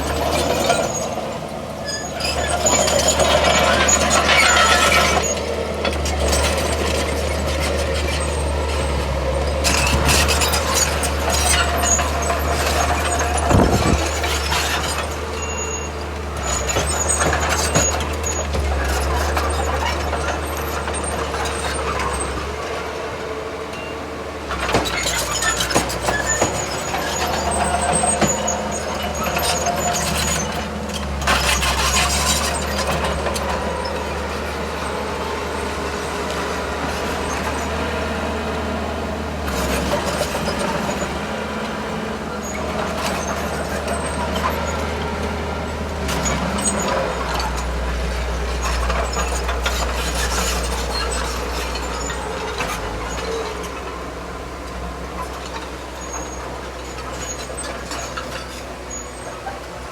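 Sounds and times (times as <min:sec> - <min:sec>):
diesel engine drone: 0:00.0 - 0:59.9
metallic clanks and squeals: 0:00.0 - 0:59.9.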